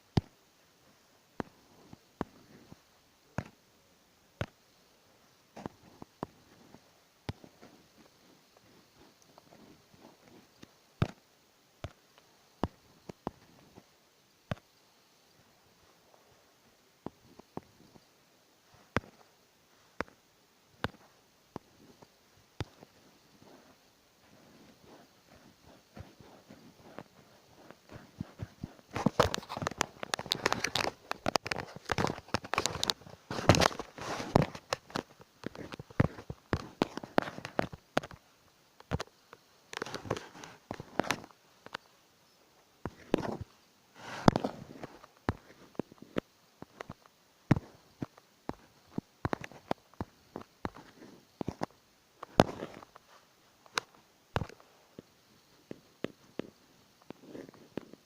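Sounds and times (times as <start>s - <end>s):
faint rustling: 4.3s - 58.0s.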